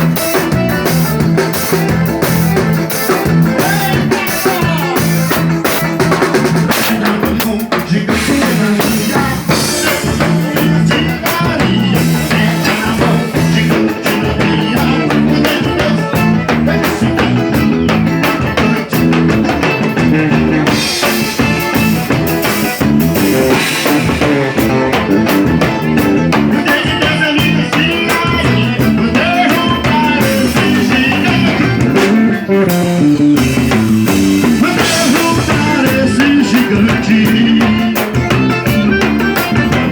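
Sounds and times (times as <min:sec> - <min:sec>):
drum kit: 0:00.0 - 0:39.9
forro band music: 0:00.0 - 0:39.9
guitar: 0:00.0 - 0:39.9.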